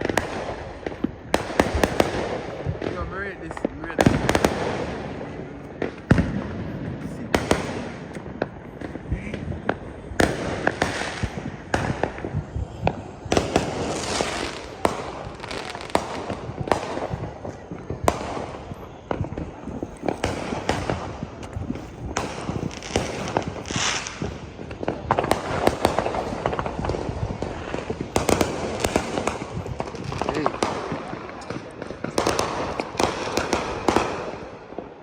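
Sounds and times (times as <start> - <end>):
firecrackers crackling: 0.0 - 35.0
fireworks bangs: 0.0 - 35.0.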